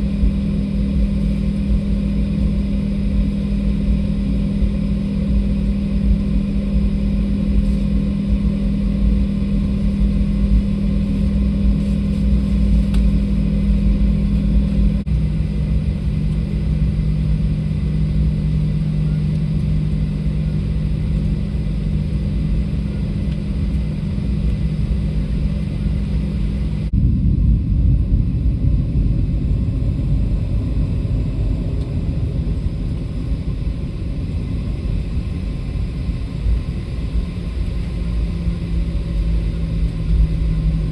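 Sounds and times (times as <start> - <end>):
airliner cabin engine rumble: 0.0 - 40.9
steady cabin hum: 0.0 - 40.9.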